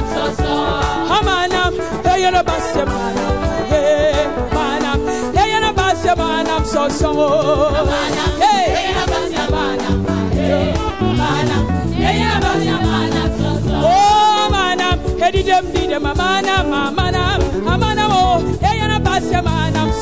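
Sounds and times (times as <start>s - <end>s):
instrumental accompaniment with bass: 0.0s - 20.0s
voices singing worship song: 0.0s - 20.0s.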